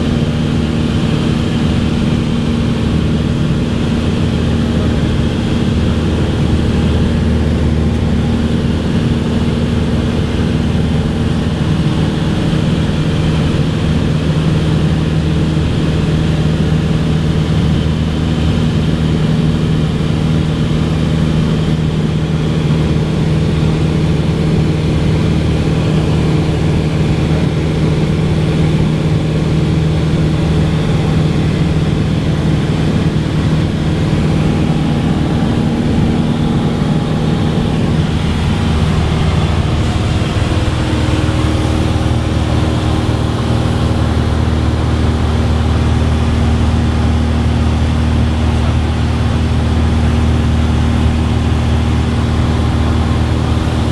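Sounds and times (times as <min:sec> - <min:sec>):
propeller plane engine drone: 0:00.0 - 0:53.9.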